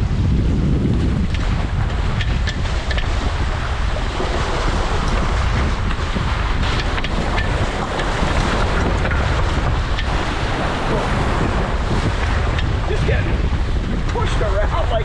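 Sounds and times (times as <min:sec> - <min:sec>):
water rushing along hulls: 0:00.0 - 0:15.0
wind buffeting microphone: 0:00.0 - 0:15.0.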